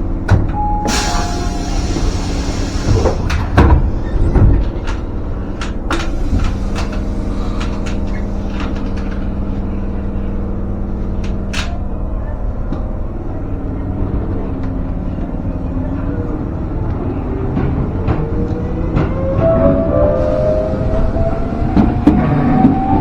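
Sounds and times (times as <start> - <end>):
wheels clicking on rails: 0.0 - 19.5
train rumbling along track: 0.0 - 23.0.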